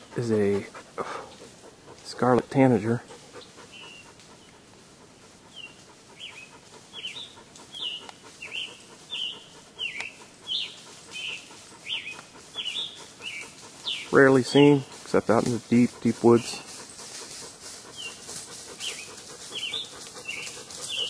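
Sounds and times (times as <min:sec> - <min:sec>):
bird singing: 0:00.0 - 0:21.0.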